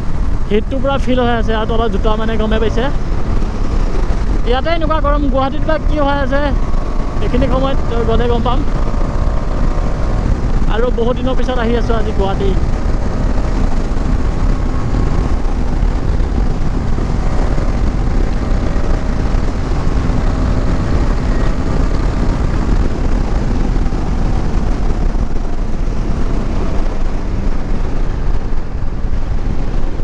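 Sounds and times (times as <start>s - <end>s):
motorcycle engine cruising: 0.0s - 30.0s
wind rushing on microphone: 0.0s - 30.0s.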